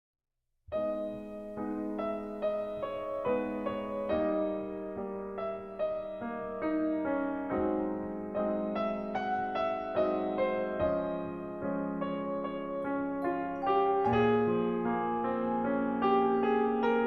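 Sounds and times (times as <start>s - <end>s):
gentle piano notes: 0.7s - 17.0s.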